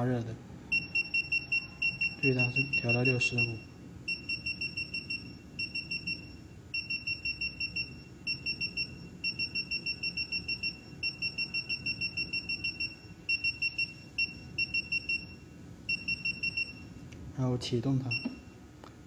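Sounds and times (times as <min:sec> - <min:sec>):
short high-pitched electronic beeps: 0:00.7 - 0:16.9.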